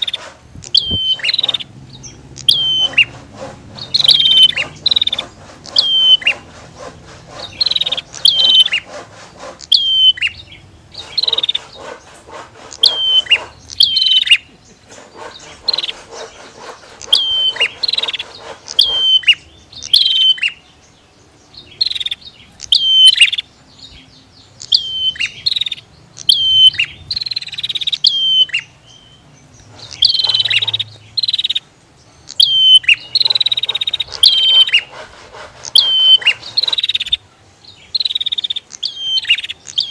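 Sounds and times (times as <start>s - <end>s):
bird buzzy rattling calls: 0.0s - 20.7s, 24.6s - 37.2s
bird sharp high calls: 0.0s - 39.9s.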